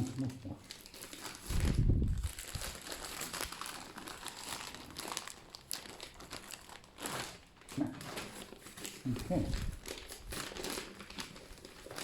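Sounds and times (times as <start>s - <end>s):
wrapping crinkling and rustling: 0.0s - 12.0s.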